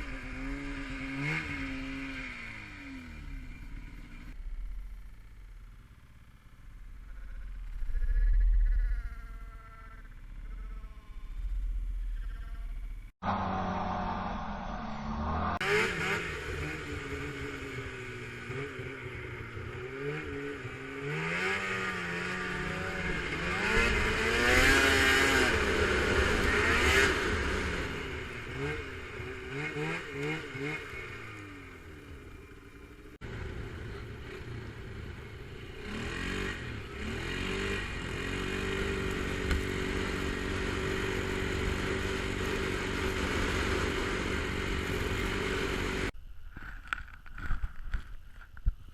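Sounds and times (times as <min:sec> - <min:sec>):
small engine revving: 0:00.0 - 0:04.4, 0:07.0 - 0:46.2.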